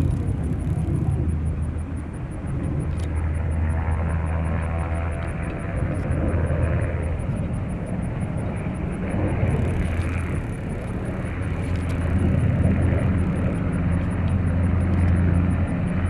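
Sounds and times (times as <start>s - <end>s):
aircraft engine drone: 0.0s - 16.0s
low constant hum: 0.0s - 16.0s.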